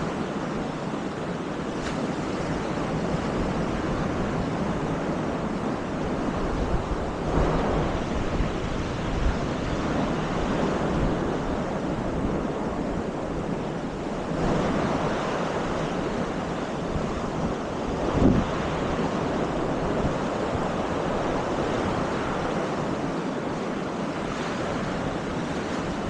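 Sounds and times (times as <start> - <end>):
sea waves breaking on beach: 0.0 - 26.0
wind rumbling on microphone: 0.0 - 26.0.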